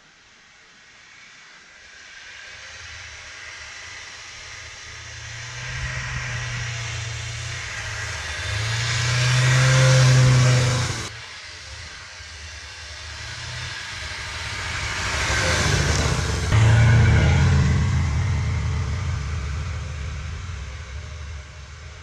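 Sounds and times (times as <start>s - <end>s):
second snowmobile approaching: 1.9s - 22.0s
snowmobile engine passing: 2.0s - 22.0s.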